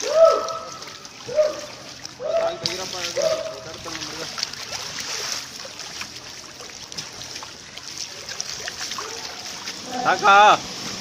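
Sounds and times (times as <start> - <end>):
pool water splashing and lapping: 0.0 - 11.0.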